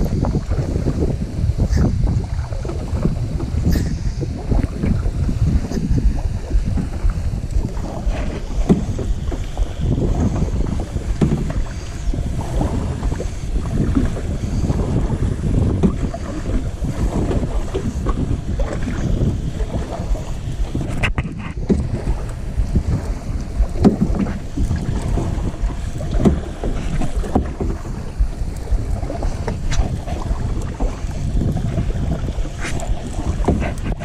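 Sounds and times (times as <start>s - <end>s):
paddle strokes splashing in water: 0.0s - 34.0s
wind buffeting microphone: 0.0s - 34.0s.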